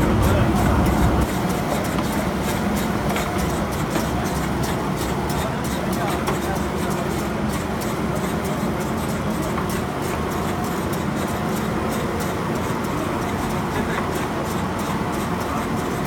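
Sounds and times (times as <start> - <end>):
spray-painting machine drone: 0.0 - 16.0.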